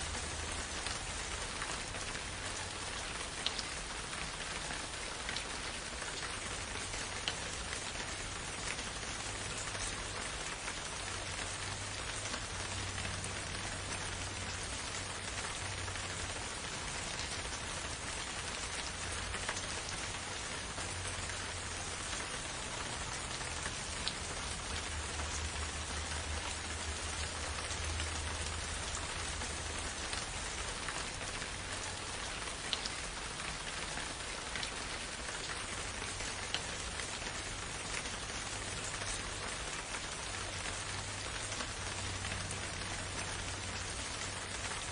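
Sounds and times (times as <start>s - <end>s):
steady rain in a forest: 0.0s - 44.9s.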